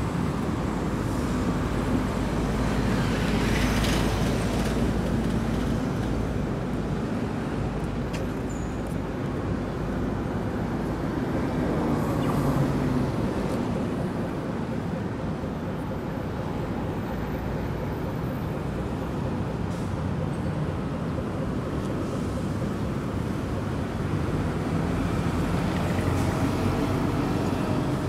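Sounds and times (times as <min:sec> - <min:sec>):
city road traffic: 0:00.0 - 0:28.0.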